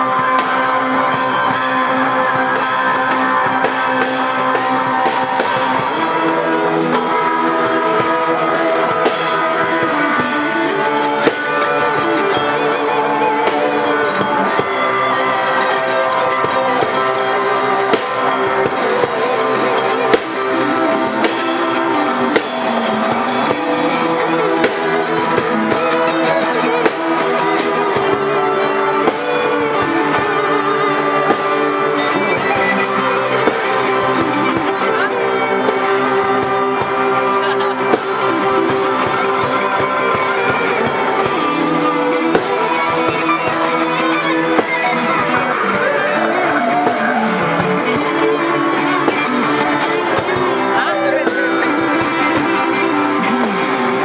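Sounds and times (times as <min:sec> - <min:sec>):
drum kit beat with cymbals: 0:00.0 - 0:54.0
electric guitar melody: 0:00.0 - 0:54.0.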